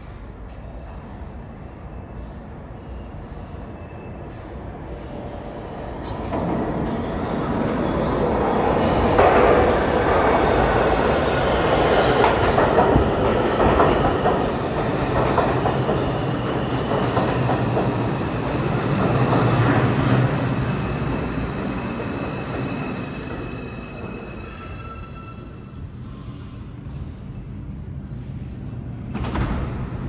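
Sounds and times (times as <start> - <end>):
subway train rumbling and clattering: 0.0 - 30.0.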